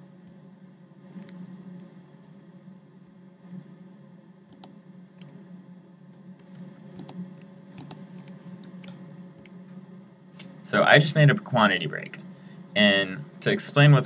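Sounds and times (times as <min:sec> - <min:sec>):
faint steady low hum: 0:00.0 - 0:14.0.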